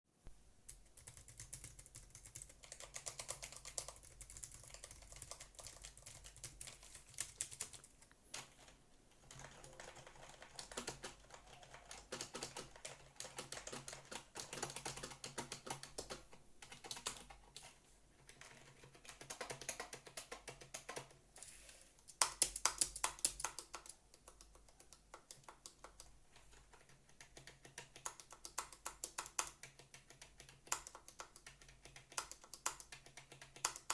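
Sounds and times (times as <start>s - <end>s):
typing on computer keyboard: 0.7s - 21.2s, 22.0s - 33.9s.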